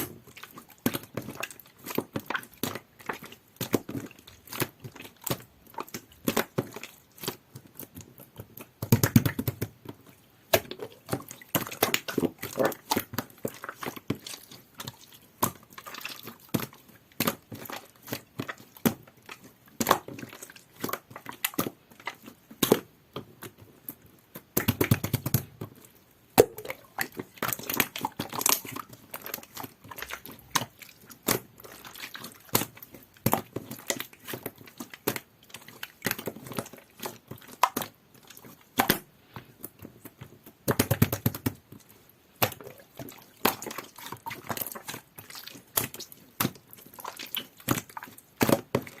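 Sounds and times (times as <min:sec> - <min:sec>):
slime squelching: 0:00.0 - 0:49.0.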